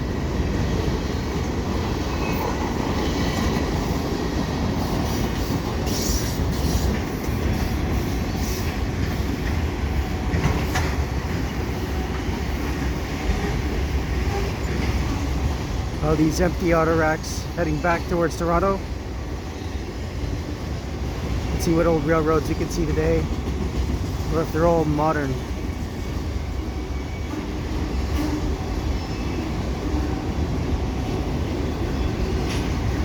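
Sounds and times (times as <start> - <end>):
clickety-clack over rail joints: 0.0 - 33.0
freight train wheels rumbling: 0.0 - 33.0.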